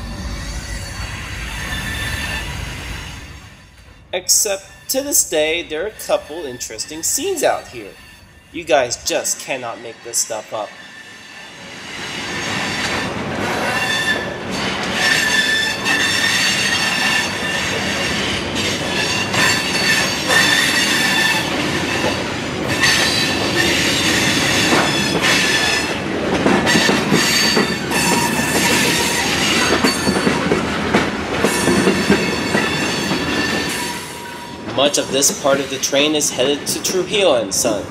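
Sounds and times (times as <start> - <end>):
steel wheels squealing: 0.0 - 8.6, 9.8 - 26.0, 26.6 - 36.2.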